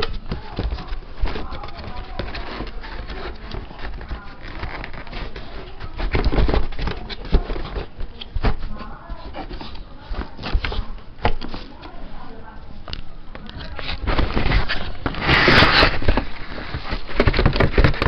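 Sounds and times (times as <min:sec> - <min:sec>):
packaging rustling: 0:00.0 - 0:12.0, 0:12.9 - 0:18.0.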